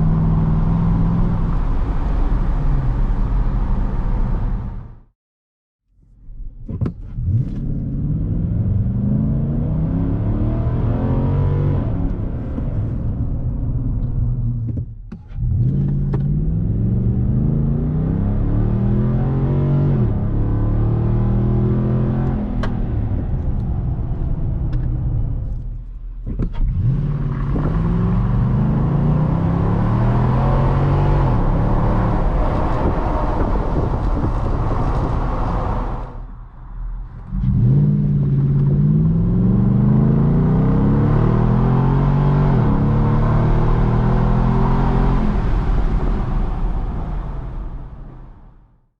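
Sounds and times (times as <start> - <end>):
truck engine accelerating: 7.1 - 48.6.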